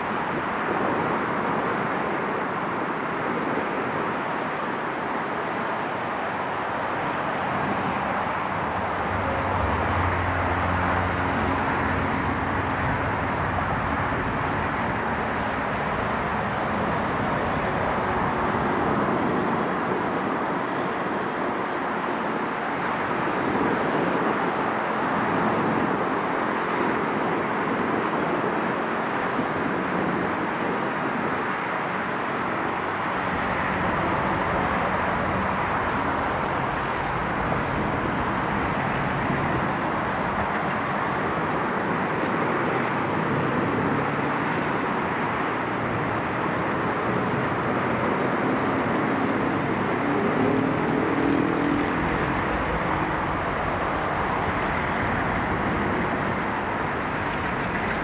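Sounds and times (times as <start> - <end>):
locomotive engine drone: 0.0 - 58.0
road traffic rushing: 0.0 - 58.0.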